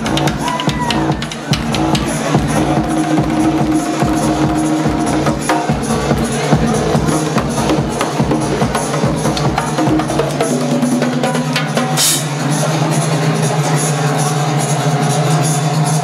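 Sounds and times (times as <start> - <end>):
drum kit beat: 0.0 - 13.0
live band playing: 0.0 - 16.0.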